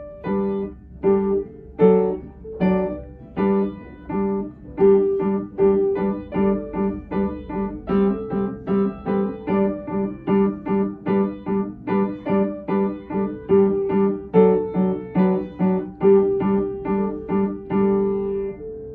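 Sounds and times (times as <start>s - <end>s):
keyboard melody: 0.0s - 18.9s.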